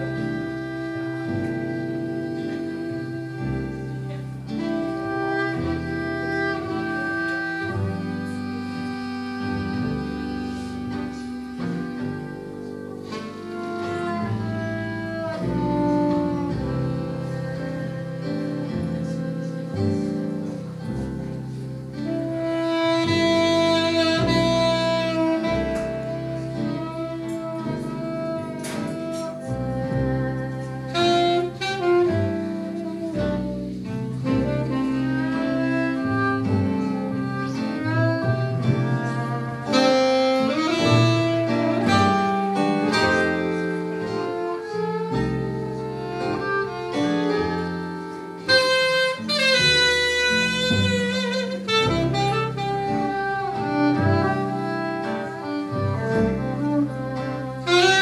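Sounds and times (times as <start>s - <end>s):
jazz band playing: 0.0s - 58.0s
tenor saxophone: 0.0s - 58.0s.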